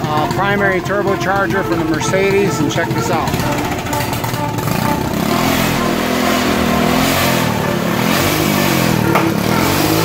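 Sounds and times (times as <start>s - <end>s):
small turbocharged engine revving: 0.0s - 10.0s.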